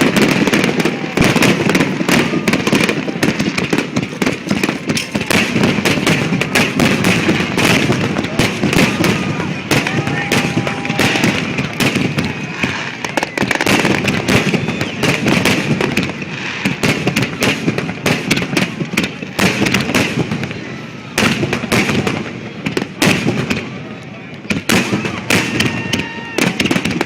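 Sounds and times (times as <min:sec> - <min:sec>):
fireworks cracks and booms: 0:00.0 - 0:27.0.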